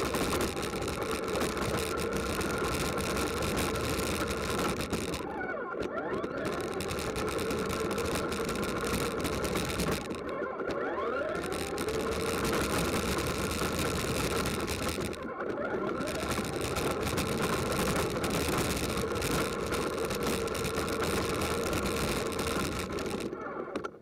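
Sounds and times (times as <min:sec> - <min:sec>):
small racing engines buzzing: 0:00.0 - 0:23.8.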